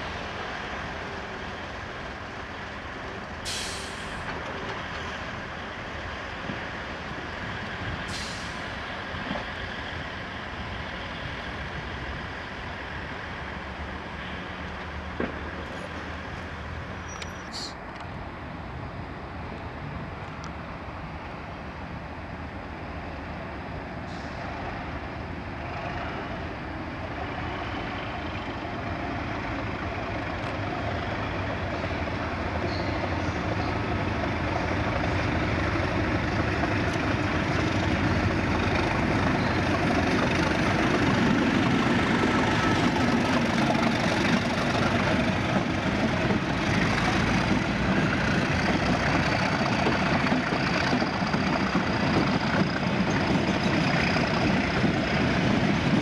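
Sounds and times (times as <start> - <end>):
diesel locomotive engine working: 0.0 - 56.0.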